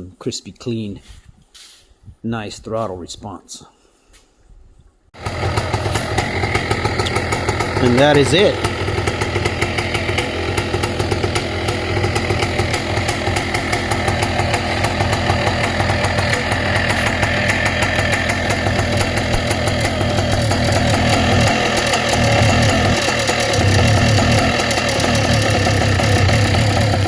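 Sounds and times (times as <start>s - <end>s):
paramotor engine running: 5.2s - 27.0s.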